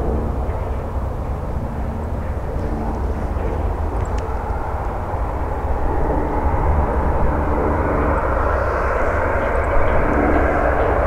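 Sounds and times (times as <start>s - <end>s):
jet engines running: 0.0s - 11.0s
steady low rumble: 0.0s - 11.0s.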